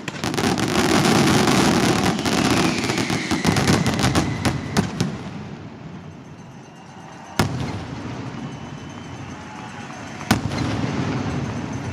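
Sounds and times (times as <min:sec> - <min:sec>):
firework shell bursts: 0:00.0 - 0:11.9.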